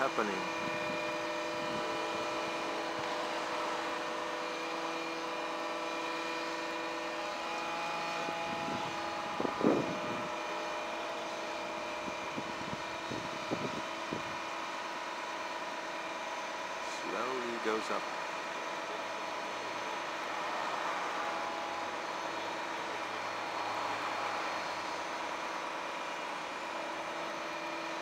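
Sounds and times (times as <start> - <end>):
fire truck engine drone: 0.0 - 28.0.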